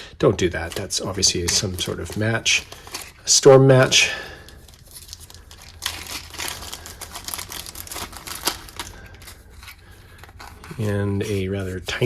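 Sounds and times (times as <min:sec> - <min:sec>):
plastic packaging crinkling: 0:00.4 - 0:12.0.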